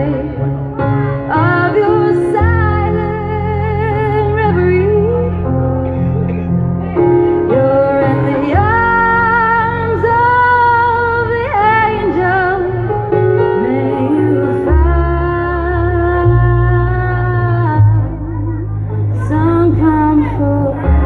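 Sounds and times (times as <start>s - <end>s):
woman singing into microphone: 0.0s - 5.6s, 7.4s - 21.0s.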